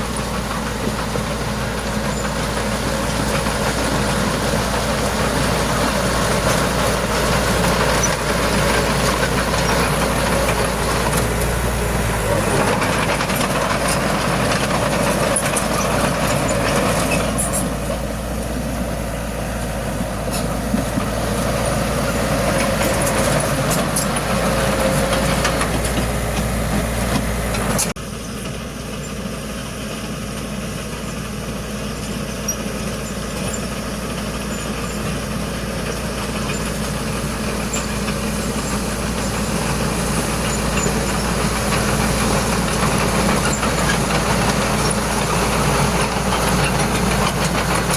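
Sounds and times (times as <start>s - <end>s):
heavy machinery diesel engine running: 0.0s - 47.9s.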